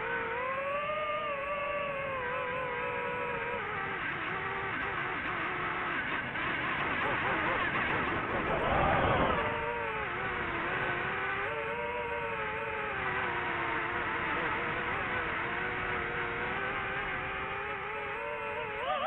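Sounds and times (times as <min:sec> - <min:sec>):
drone motors whining: 0:00.0 - 0:19.0
rush of wind: 0:02.9 - 0:19.0.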